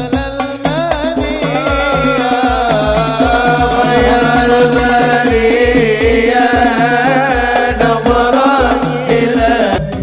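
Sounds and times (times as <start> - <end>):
deep bass drum thumps: 0.0 - 10.0
hand drums beating a rhythm: 0.0 - 10.0
man singing into a microphone: 0.0 - 10.0.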